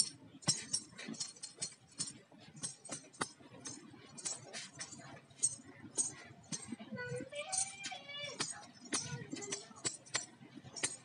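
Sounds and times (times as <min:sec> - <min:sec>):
anklet bells jingling: 0:00.0 - 0:11.0.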